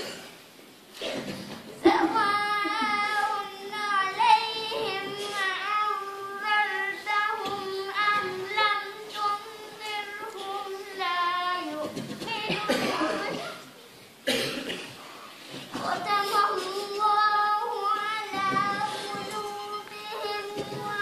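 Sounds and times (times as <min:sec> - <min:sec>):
girl singing solo: 0:01.8 - 0:13.6, 0:15.8 - 0:21.0.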